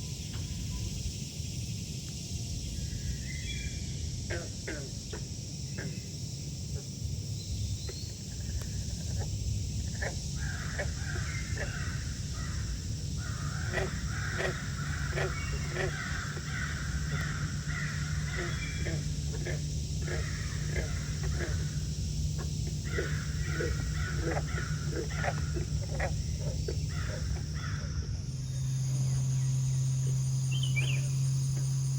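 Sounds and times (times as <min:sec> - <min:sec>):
frogs croaking: 0:00.0 - 0:31.9
steady low rumble: 0:00.0 - 0:31.9
chorus of rapid frog calls: 0:02.7 - 0:31.9.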